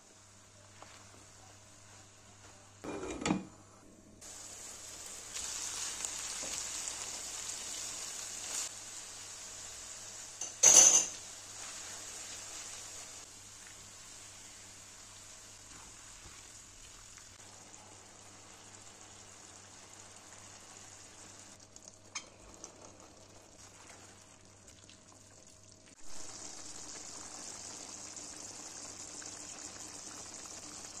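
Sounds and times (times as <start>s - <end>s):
stew sizzling in a frying pan: 4.2s - 31.0s.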